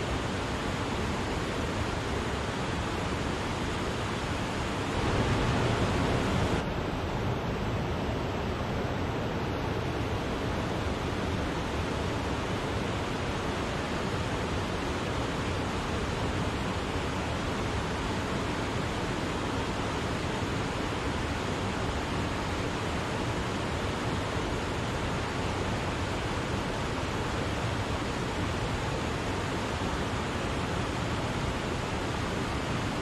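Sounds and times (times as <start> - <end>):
waterfall rushing: 0.0 - 7.6, 9.7 - 33.0.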